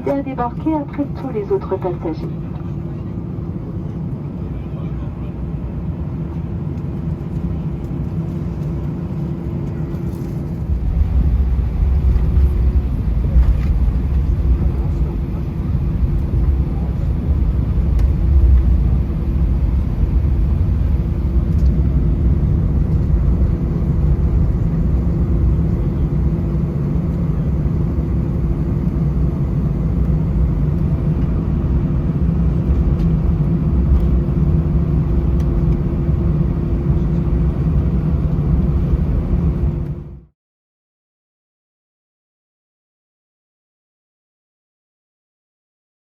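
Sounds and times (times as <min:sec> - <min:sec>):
aircraft cabin rumble: 0:00.0 - 0:40.3
idling jet engines hum: 0:00.0 - 0:40.3.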